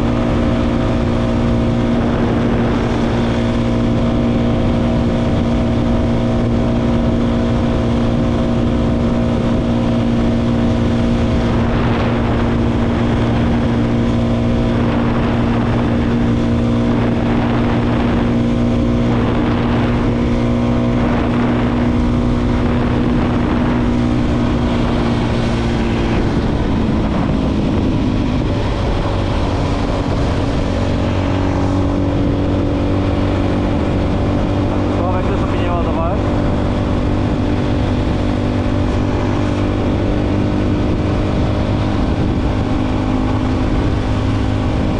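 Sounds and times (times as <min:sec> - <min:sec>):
motorcycle engine cruising: 0:00.0 - 0:44.9
wind and road noise: 0:00.0 - 0:44.9.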